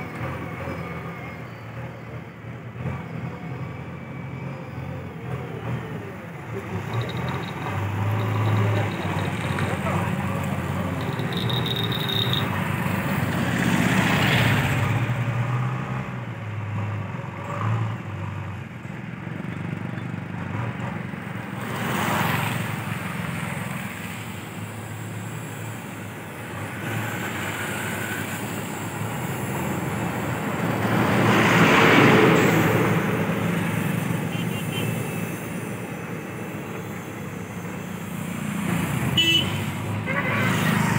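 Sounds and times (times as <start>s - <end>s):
diesel engine hum: 0.0s - 40.9s
passing road traffic: 0.0s - 40.9s.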